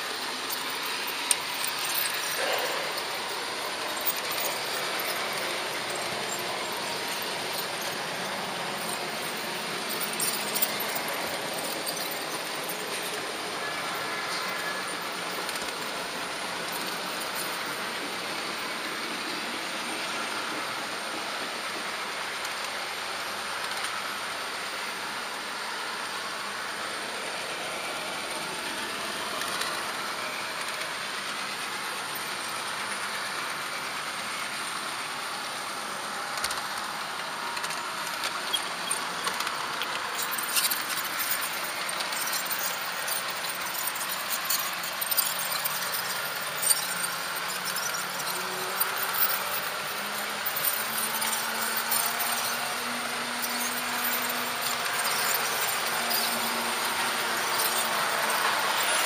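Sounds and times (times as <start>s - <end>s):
model train rolling on track: 0.0s - 59.0s.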